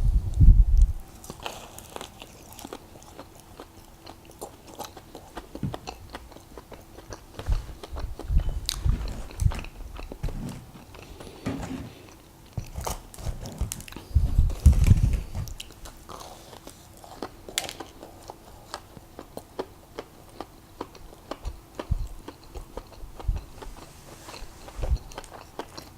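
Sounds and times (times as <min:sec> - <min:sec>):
biting and chewing doughnut: 0:01.2 - 0:11.4, 0:12.0 - 0:25.9.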